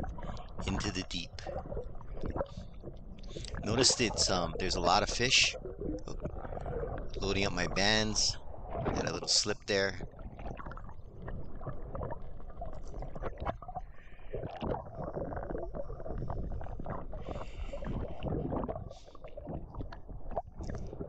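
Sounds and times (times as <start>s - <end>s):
muffled underwater rumble: 0.0s - 21.0s.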